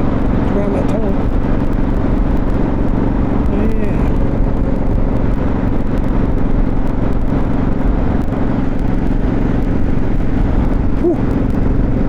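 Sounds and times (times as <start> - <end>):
motorcycle engine running: 0.0 - 12.0
wind rumble on microphone: 0.0 - 12.0.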